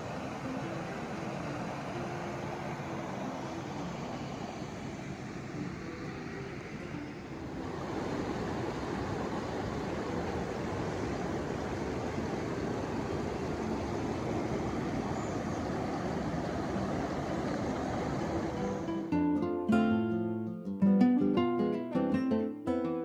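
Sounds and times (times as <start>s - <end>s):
stream rushing over rocks: 0.0s - 19.1s.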